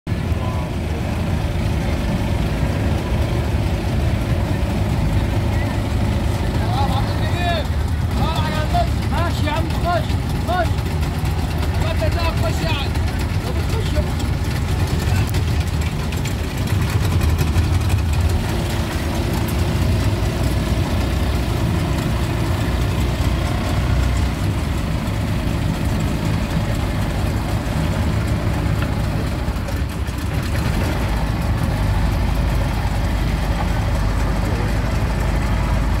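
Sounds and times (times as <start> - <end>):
motorboat engine running: 0.1 - 36.0.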